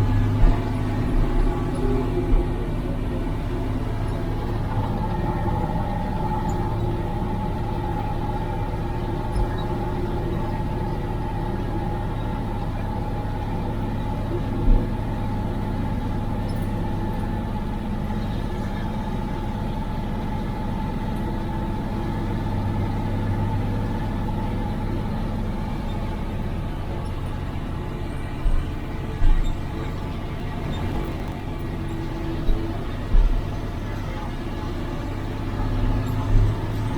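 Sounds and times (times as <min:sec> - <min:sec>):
diesel truck engine running: 0:00.0 - 0:36.9.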